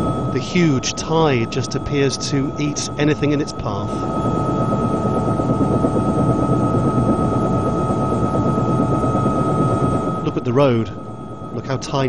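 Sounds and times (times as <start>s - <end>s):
constant high whine: 0.0s - 12.0s
helicopter engine and rotor noise: 0.0s - 12.0s.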